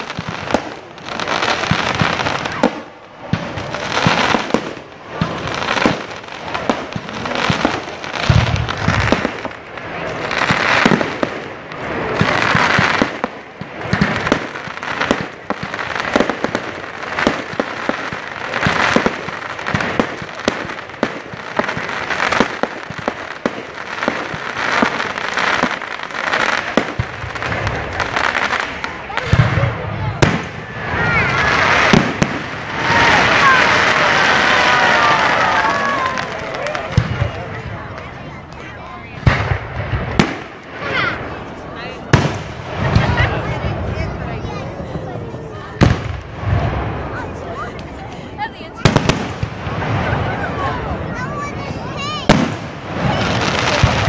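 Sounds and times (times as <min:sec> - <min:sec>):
fireworks crackling and popping: 0:00.0 - 0:54.0.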